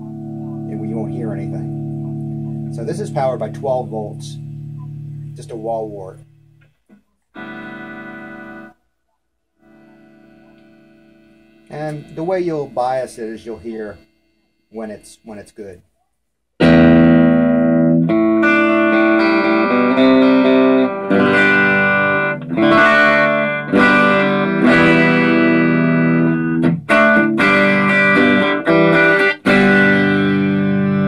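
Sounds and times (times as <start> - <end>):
electric guitar chords ringing: 0.0 - 6.8, 7.4 - 8.8, 9.6 - 15.8, 16.6 - 31.0.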